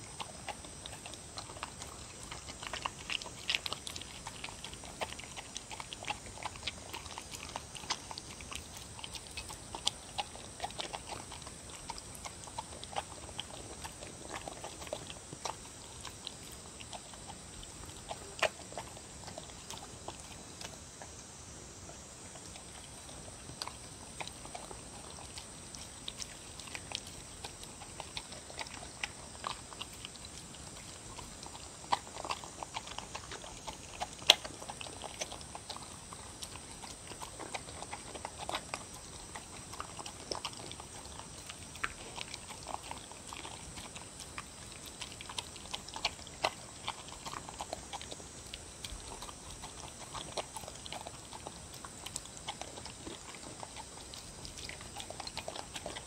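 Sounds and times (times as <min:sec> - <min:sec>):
dog eating from a bowl: 0:00.0 - 0:56.0.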